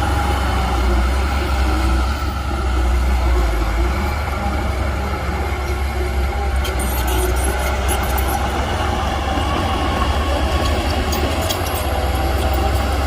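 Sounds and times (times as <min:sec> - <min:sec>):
diesel earthmoving machine rumble: 0:00.0 - 0:13.0.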